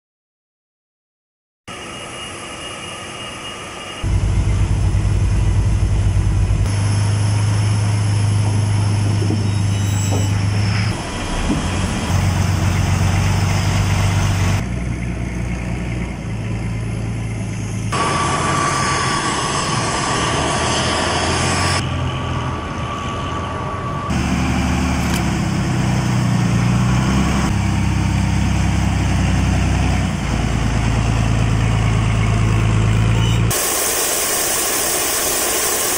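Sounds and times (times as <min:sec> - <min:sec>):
steady high whine: 0:01.7 - 0:27.6, 0:30.7 - 0:35.9
heavy truck diesel engines: 0:01.7 - 0:33.8.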